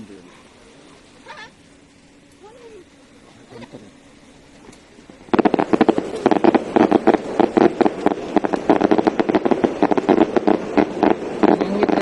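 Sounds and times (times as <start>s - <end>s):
fireworks popping and crackling: 2.3s - 12.0s.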